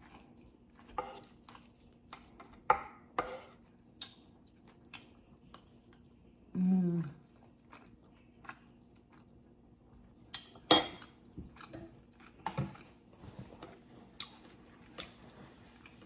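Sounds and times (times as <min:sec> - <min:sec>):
close chewing of food: 0:00.0 - 0:16.0.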